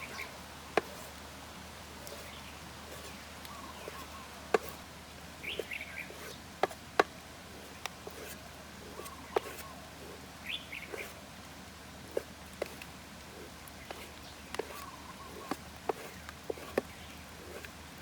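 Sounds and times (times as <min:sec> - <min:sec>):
birds chirping: 0:00.0 - 0:18.0
steady background hiss: 0:00.0 - 0:18.0.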